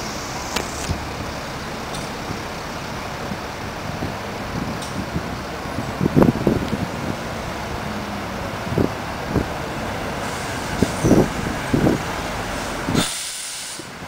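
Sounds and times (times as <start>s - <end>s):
bus engine running: 0.0s - 14.0s
traffic rumble: 0.0s - 14.0s.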